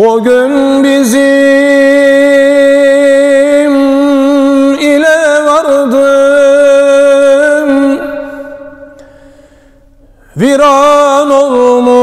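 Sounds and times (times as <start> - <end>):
man singing a long note: 0.0 - 9.0, 10.4 - 12.0.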